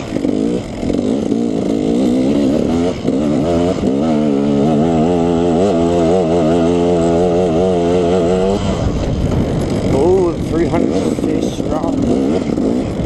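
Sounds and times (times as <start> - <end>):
two-stroke dirt bike engine revving: 0.0 - 13.0.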